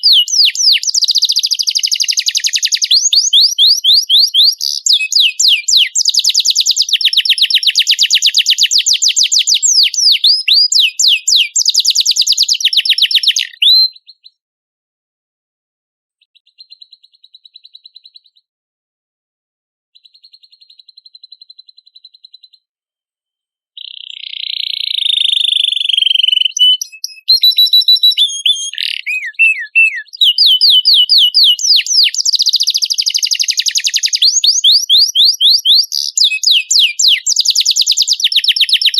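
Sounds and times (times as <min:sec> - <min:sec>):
canary singing trills: 0:00.0 - 0:14.4, 0:16.2 - 0:18.5, 0:20.0 - 0:22.7, 0:23.8 - 0:38.9.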